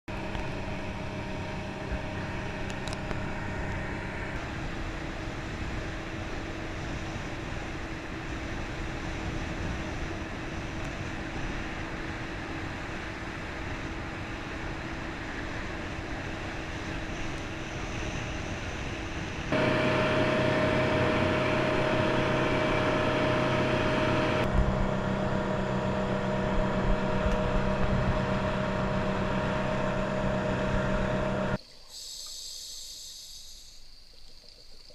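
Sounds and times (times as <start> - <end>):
boat engine hum: 0.1 - 31.6.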